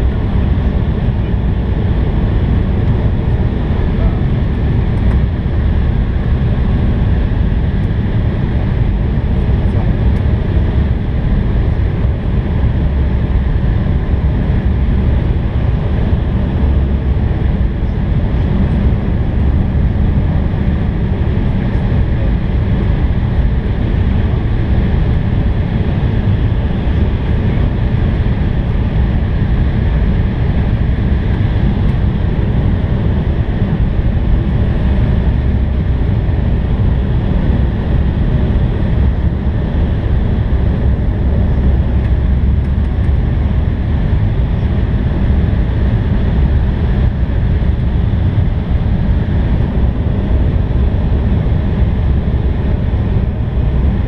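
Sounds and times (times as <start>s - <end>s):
cabin airflow rush: 0.0s - 54.0s
jet engines running: 0.0s - 54.0s.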